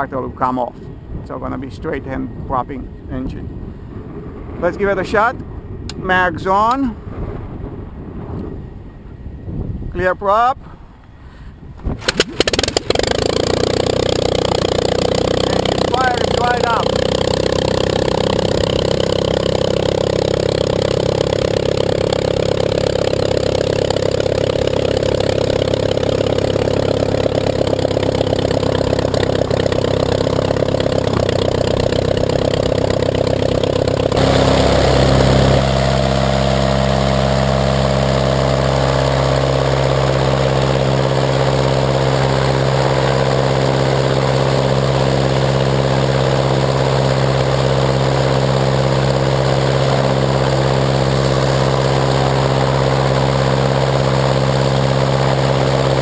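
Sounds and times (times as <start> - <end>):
aircraft engine running: 0.0 - 10.0, 12.0 - 56.0.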